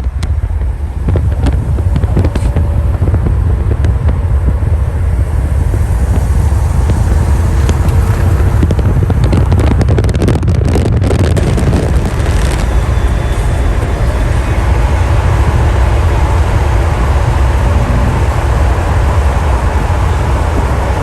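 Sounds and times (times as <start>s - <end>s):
car engine rumbling: 0.0s - 21.0s
wind across microphone: 0.0s - 21.0s.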